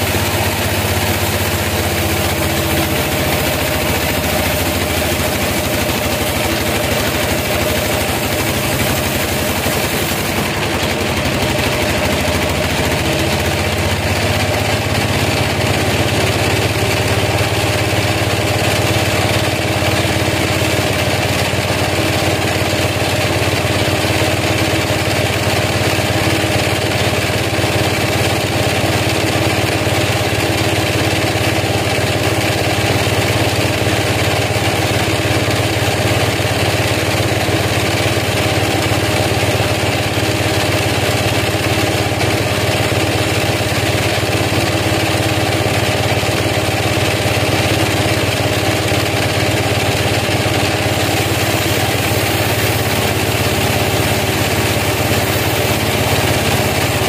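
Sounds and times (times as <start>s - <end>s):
band sawmill drone: 0.0s - 28.4s, 29.6s - 57.0s
hiss of saw cutting log: 0.0s - 57.0s.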